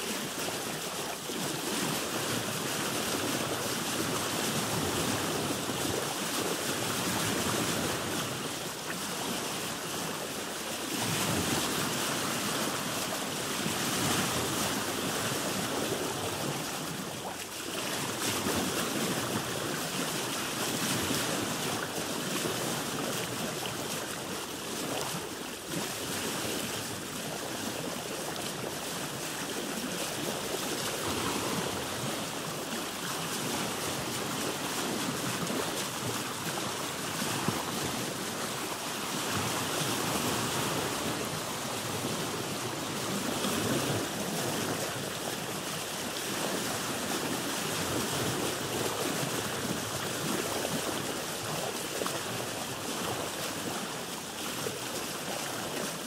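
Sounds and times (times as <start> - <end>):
water splashing against boat hull: 0.0 - 56.0.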